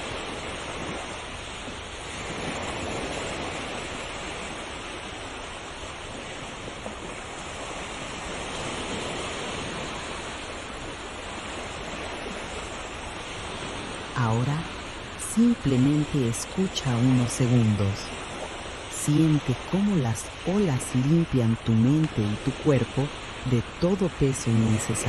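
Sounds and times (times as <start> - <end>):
ocean waves washing ashore: 0.0 - 25.0.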